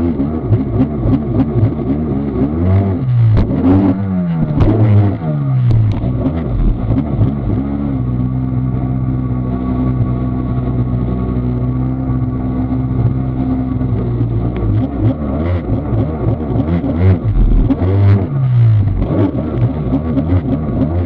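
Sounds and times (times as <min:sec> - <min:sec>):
jet ski engine revving: 0:00.0 - 0:21.0.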